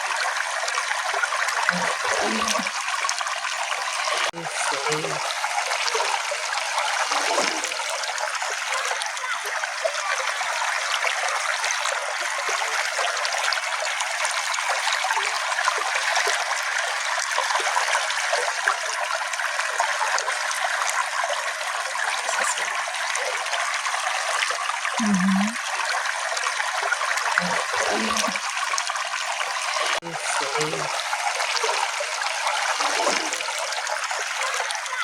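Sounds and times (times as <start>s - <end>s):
stream trickling: 0.0s - 35.0s.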